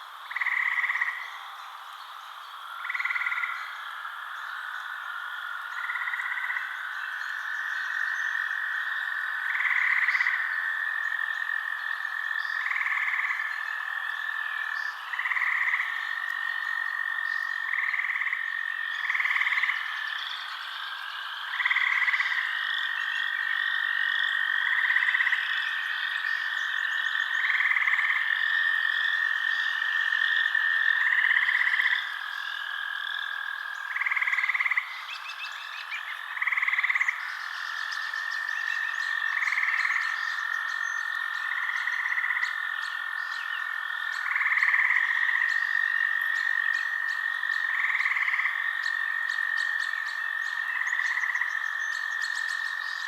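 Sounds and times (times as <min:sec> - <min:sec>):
frog calls: 0:00.0 - 0:53.0
frogs trilling: 0:00.0 - 0:53.0.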